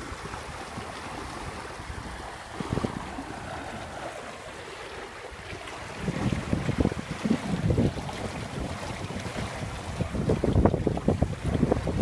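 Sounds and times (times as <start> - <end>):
rush of wind and water: 0.0 - 12.0.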